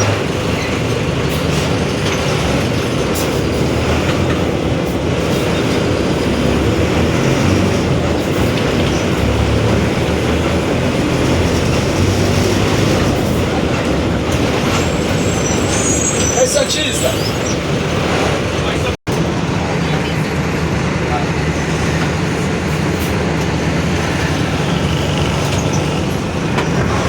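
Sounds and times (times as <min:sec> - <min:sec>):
bus drivetrain and road rumble: 0:00.0 - 0:27.0.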